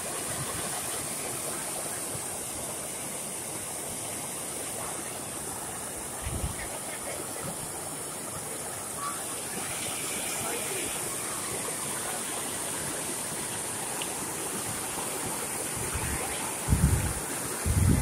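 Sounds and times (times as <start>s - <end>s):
water pouring over spillway: 0.0s - 18.0s.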